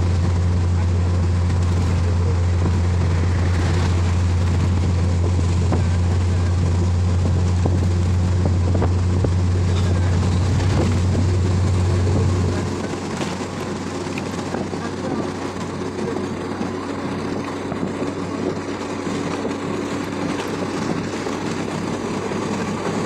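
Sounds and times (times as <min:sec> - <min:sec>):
bus engine drone: 0:00.0 - 0:23.0
road noise hiss: 0:00.0 - 0:23.0.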